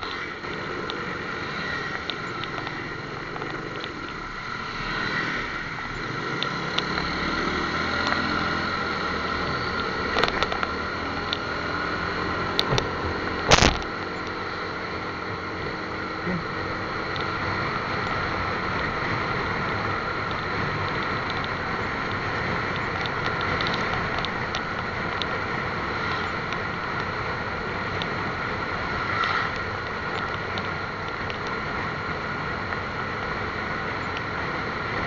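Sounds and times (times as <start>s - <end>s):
wind and road noise: 0.0s - 35.0s.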